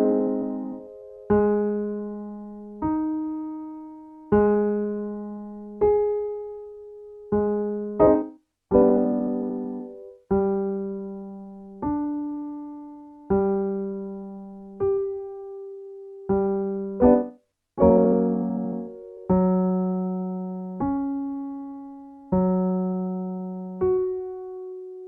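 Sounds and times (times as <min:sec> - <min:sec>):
piano chords: 0:00.0 - 0:25.0
piano low notes: 0:00.0 - 0:25.0.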